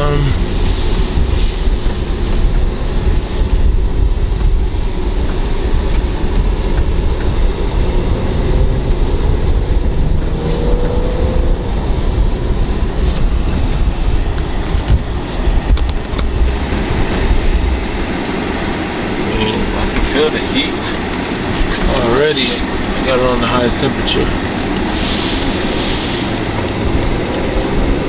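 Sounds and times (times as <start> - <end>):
road and engine rumble in car cabin: 0.0 - 28.0.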